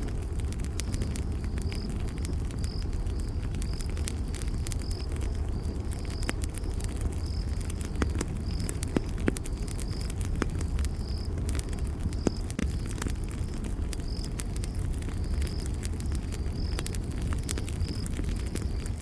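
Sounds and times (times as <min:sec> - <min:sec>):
campfire crackling and popping: 0:00.0 - 0:19.0
cricket chirping: 0:00.4 - 0:19.0.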